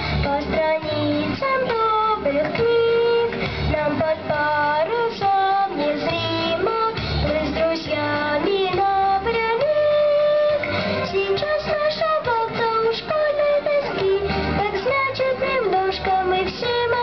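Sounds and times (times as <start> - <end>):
musical accompaniment: 0.0 - 17.0
girl singing: 0.2 - 17.0.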